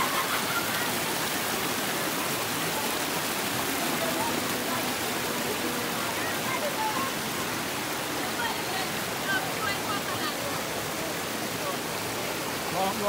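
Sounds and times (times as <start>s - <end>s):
faint voices of bathers: 0.0s - 12.4s
water rushing over cascades: 0.0s - 13.0s.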